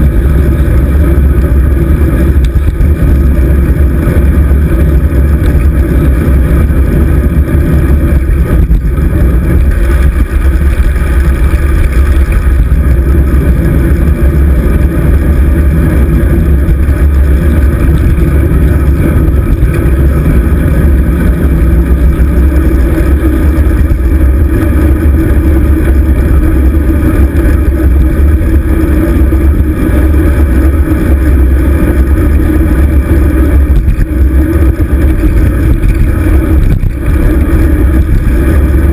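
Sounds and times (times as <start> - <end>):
road vibration rumble: 0.0 - 38.9
wind buffeting: 0.0 - 38.9.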